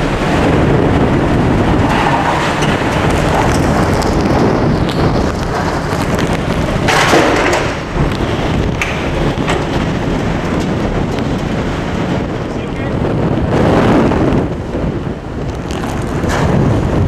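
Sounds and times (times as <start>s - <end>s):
rain beating against building: 0.0s - 17.0s
strong wind against building: 0.0s - 17.0s.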